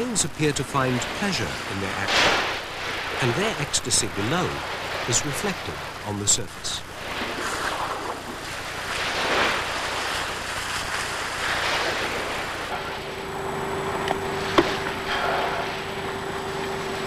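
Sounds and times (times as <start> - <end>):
low hum: 0.0 - 17.0
water splashing: 0.0 - 17.0.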